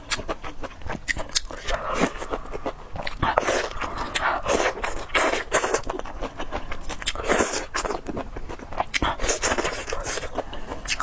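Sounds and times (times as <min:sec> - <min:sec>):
chewing and biting food: 0:00.0 - 0:11.0.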